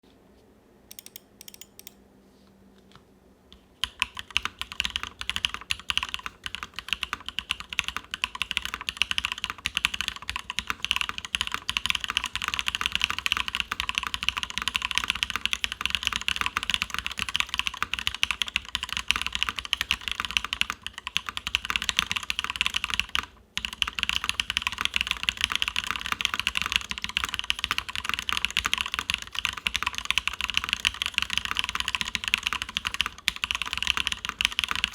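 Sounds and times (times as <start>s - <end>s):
fast typing on mechanical keyboard: 0.9s - 1.9s, 3.8s - 34.9s.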